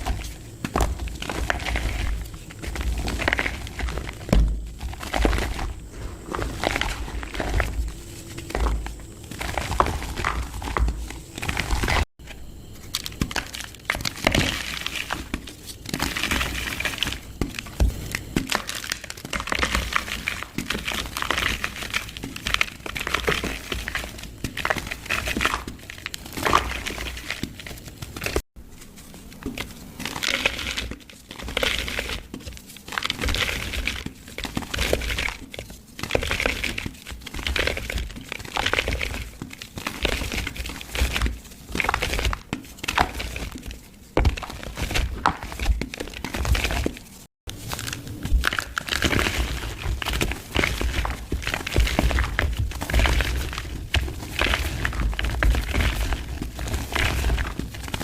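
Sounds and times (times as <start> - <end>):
dried mud crunching in plastic pot: 0.0 - 58.0.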